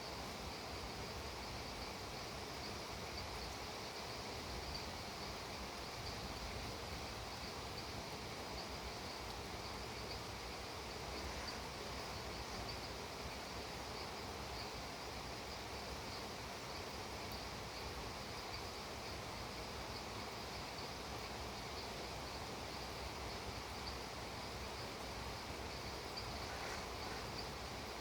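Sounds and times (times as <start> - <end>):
insects chirping: 0.0 - 28.0
rain falling: 1.7 - 28.0.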